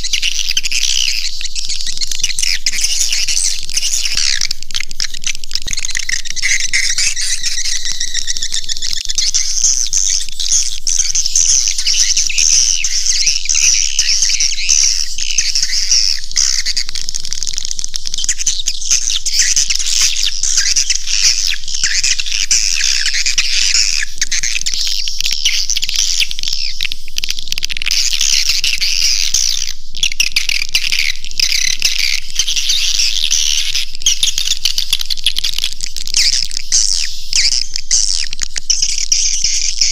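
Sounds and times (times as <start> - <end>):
swiftlet calls twittering: 0.0 - 39.9.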